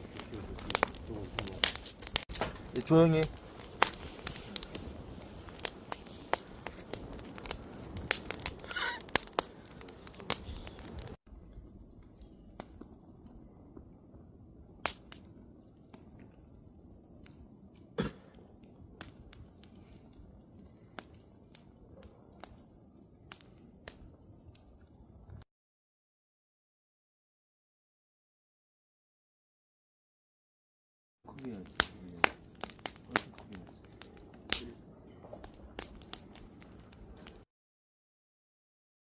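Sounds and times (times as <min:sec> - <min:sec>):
campfire crackling and popping: 0:00.0 - 0:25.4, 0:31.3 - 0:37.5.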